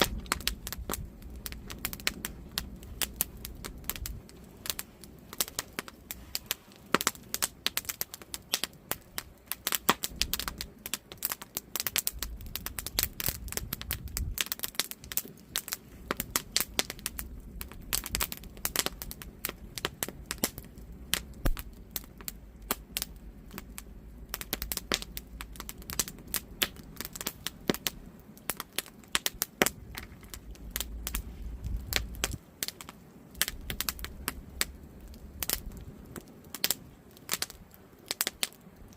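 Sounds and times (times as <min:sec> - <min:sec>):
campfire crackling and popping: 0:00.0 - 0:38.9
low rumble of burning logs: 0:00.0 - 0:38.9.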